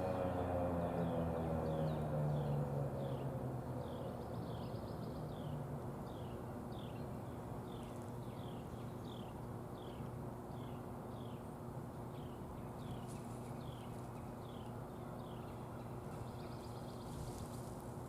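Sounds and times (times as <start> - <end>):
bird chirping: 1.0 - 11.5, 12.1 - 17.6.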